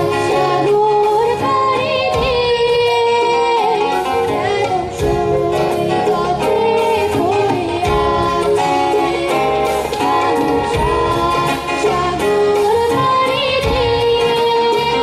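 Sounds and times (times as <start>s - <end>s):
boy singing into microphone: 0.0s - 15.0s
instrumental accompaniment: 0.0s - 15.0s.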